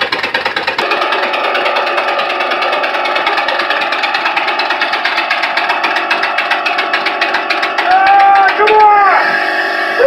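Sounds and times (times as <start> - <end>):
air engine running: 0.0 - 10.0.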